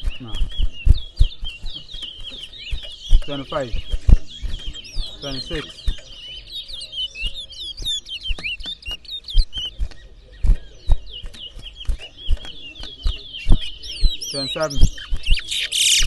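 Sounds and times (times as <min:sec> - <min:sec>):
sharp low thumps: 0:00.0 - 0:15.4
finches chirping and whistling: 0:00.0 - 0:16.0.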